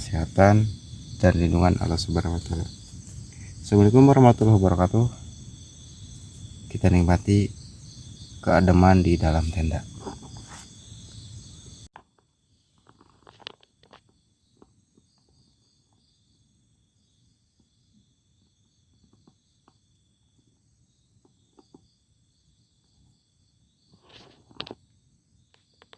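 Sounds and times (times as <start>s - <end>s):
crickets trilling: 0.0s - 25.9s.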